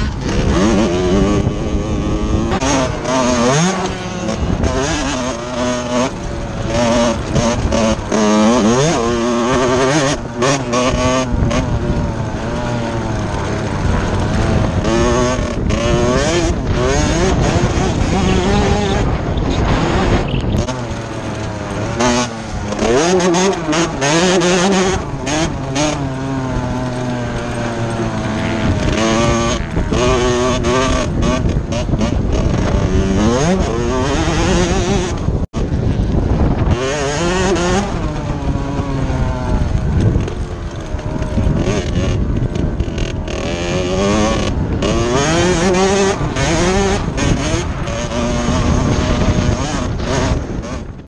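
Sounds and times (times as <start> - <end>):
dirt bike engine accelerating: 0.0 - 51.0.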